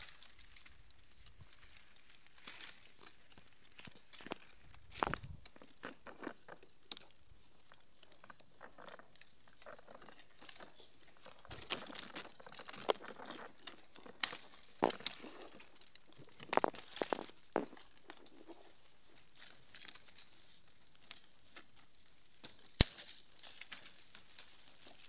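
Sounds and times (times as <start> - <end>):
leaves and twigs rustling: 0.0 - 25.0
twigs snapping: 0.0 - 25.0.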